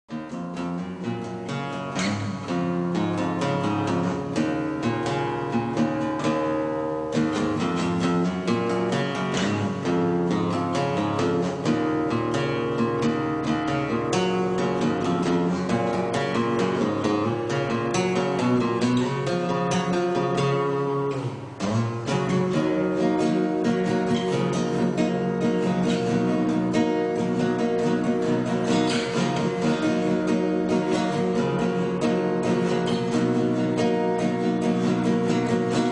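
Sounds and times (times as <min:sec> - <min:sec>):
acoustic guitar plucked and strummed: 0:00.1 - 0:35.9.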